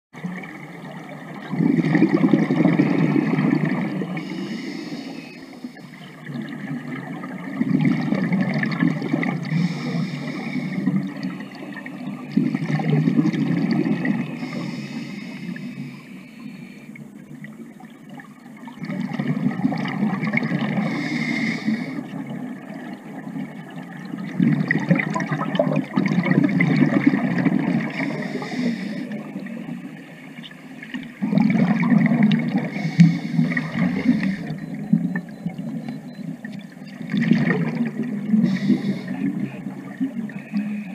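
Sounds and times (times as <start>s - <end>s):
bubbles gurgling underwater: 0.2s - 4.8s, 5.8s - 14.8s, 17.0s - 40.9s.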